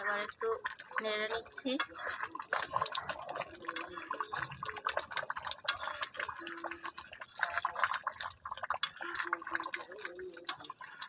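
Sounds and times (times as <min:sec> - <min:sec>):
gravy simmering and bubbling: 0:00.0 - 0:11.0
spatula stirring: 0:00.0 - 0:11.0.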